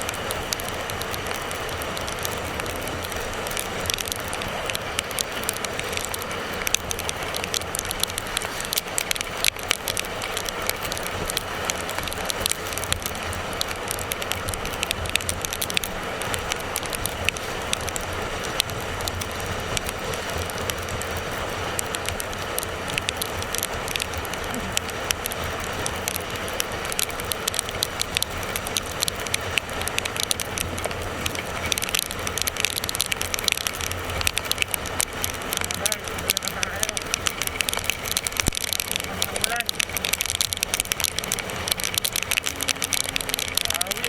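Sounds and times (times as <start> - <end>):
motorcycle engine hum: 0.0 - 44.0
raindrops ticking on camera: 0.0 - 44.0
wind and road rush: 0.0 - 44.0.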